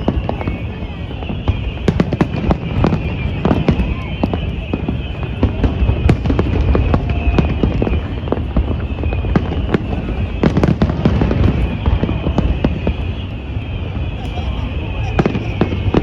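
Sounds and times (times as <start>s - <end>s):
fireworks cracking and banging: 0.0s - 16.0s
low rumble of fireworks bursts: 0.0s - 16.0s.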